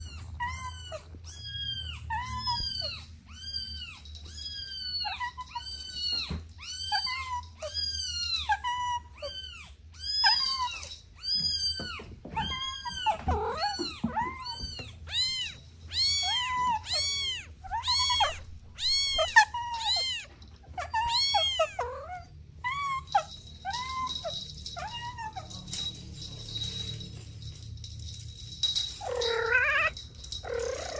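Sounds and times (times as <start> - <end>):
kittens meowing: 0.0 - 25.8, 29.0 - 30.9.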